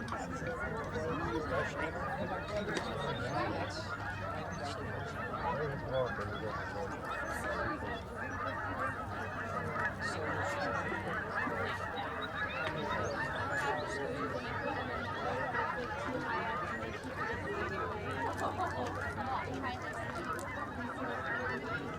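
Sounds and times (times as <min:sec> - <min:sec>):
flock of geese honking: 0:00.0 - 0:21.9.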